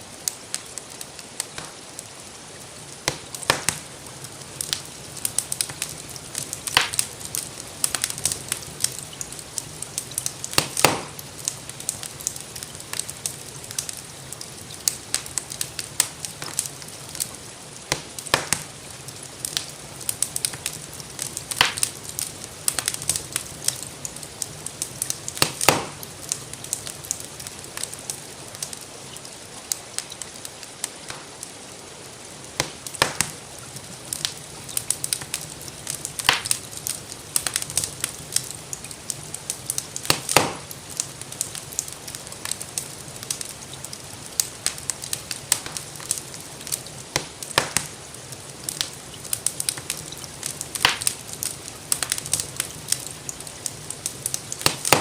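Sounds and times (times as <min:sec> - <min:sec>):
gentle rain: 0:00.0 - 0:55.0
wood fire crackling: 0:00.0 - 0:55.0.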